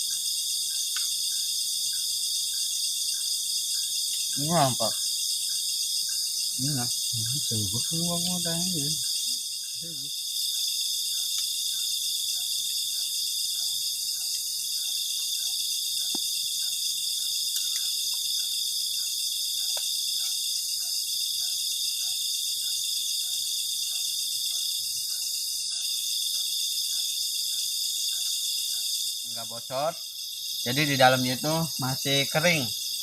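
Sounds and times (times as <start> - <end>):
crickets trilling: 0.0 - 33.0
lower pulsing insect call: 0.0 - 33.0.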